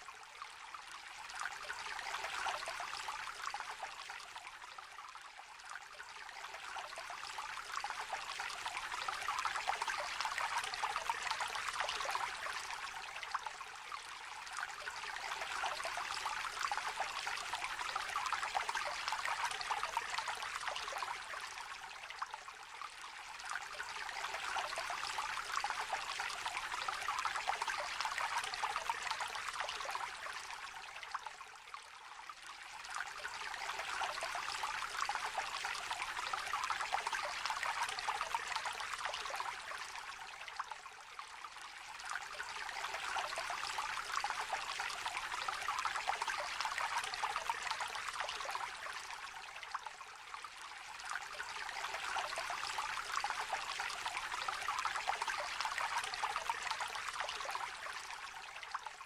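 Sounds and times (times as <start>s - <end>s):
river trickling and babbling: 0.0s - 59.0s.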